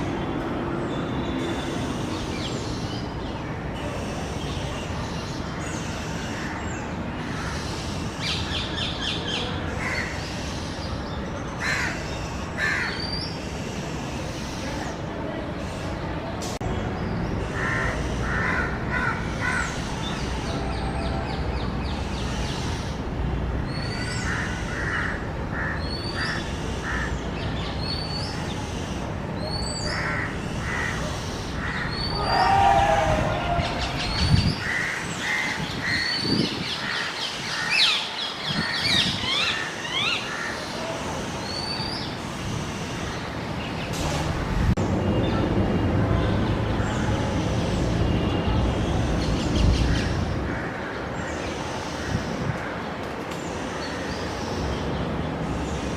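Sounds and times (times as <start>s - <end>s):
birds calling: 0.0s - 55.9s.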